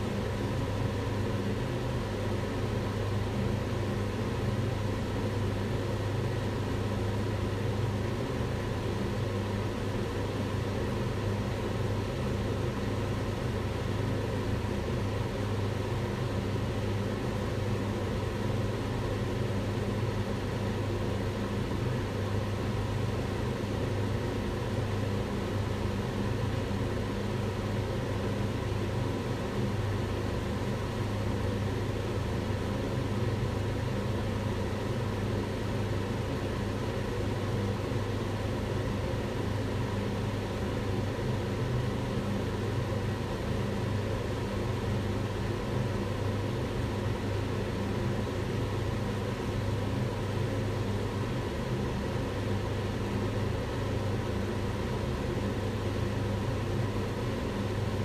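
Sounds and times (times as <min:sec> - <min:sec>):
range hood fan running: 0:00.0 - 0:58.0.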